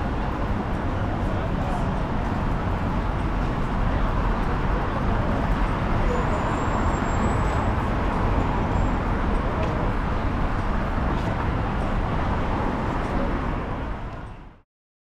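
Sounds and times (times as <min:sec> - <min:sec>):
outdoor city background rumble: 0:00.0 - 0:14.6.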